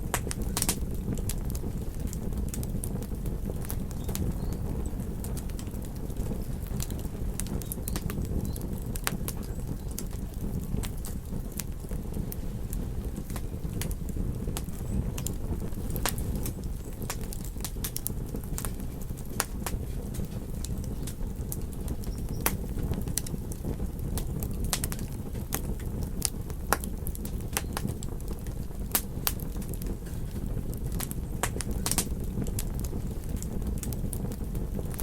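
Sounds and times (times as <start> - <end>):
low rumble of burning: 0.0 - 35.0
wood fire crackling and popping: 0.0 - 35.0.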